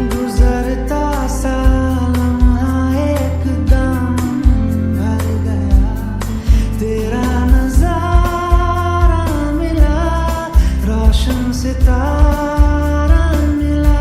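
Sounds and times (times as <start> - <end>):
deep bass hits and percussion: 0.0 - 14.0
pop song with gliding vocals: 0.0 - 14.0.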